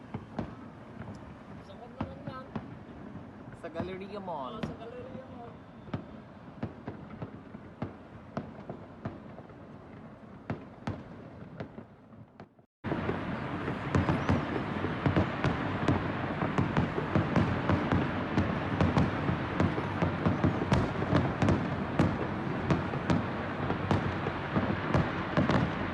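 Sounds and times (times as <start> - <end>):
fireworks bangs: 0.0 - 25.9
fireworks crackling pops: 0.0 - 25.9.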